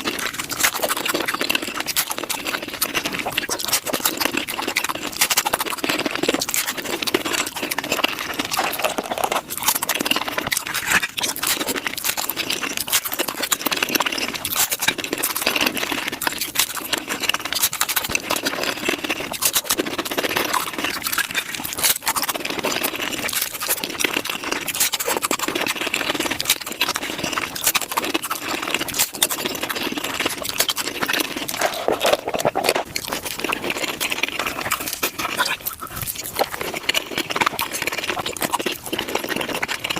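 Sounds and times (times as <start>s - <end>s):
sped-up chewing and crunching: 0.0s - 39.9s.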